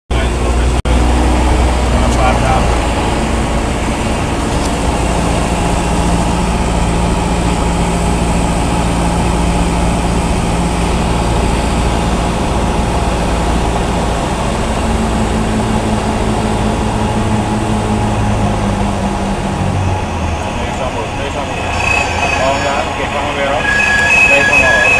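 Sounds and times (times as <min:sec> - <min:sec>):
propeller plane engine droning: 0:00.1 - 0:24.9.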